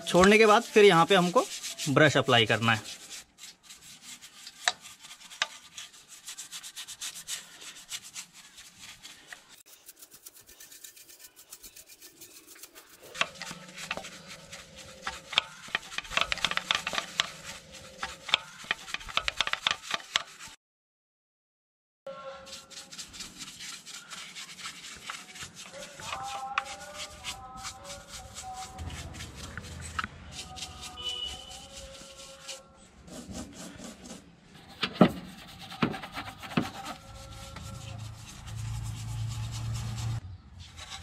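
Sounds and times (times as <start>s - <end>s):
bristle brush scrubbing metal: 0.0s - 20.6s, 22.2s - 41.0s.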